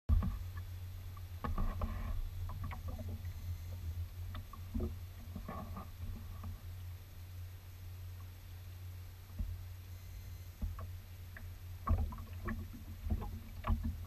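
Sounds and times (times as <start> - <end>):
small waves splashing against hull: 0.1 - 14.0
steady low rumble: 0.1 - 14.0.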